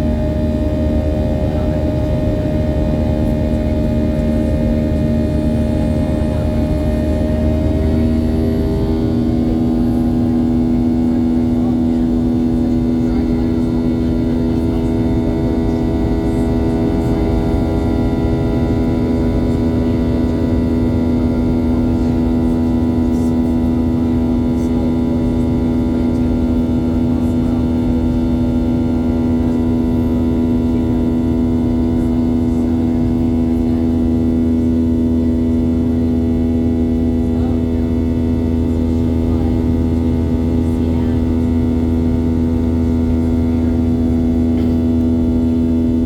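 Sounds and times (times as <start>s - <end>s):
aircraft engines droning in cabin: 0.0s - 46.0s.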